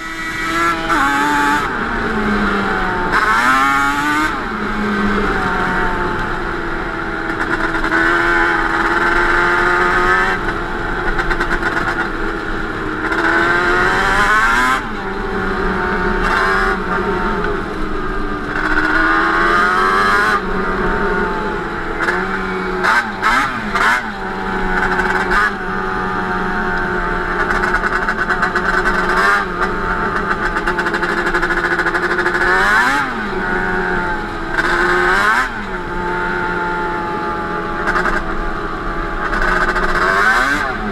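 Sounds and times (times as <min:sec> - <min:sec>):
two-stroke engine revving: 0:00.0 - 0:40.9.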